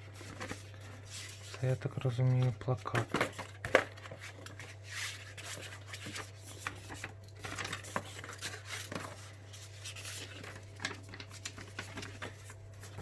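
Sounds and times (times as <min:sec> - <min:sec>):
paper and cardboard rustling: 0:00.0 - 0:13.0.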